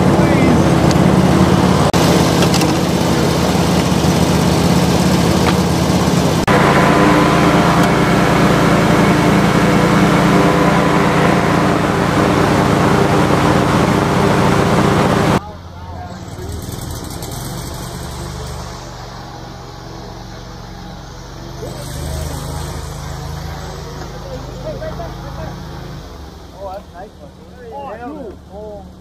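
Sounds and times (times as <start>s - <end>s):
small boat engine drone: 0.0s - 29.0s.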